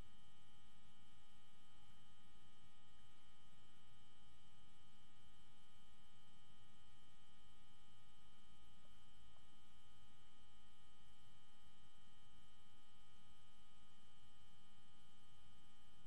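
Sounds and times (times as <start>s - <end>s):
electrical hum with high tones: 0.0s - 16.0s.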